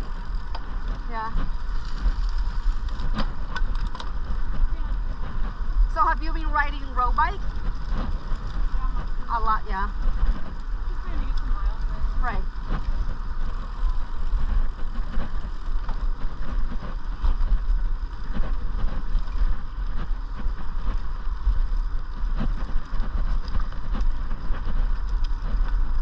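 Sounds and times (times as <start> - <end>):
tyre and road noise: 0.0 - 26.0
wind rushing over microphone: 0.0 - 26.0.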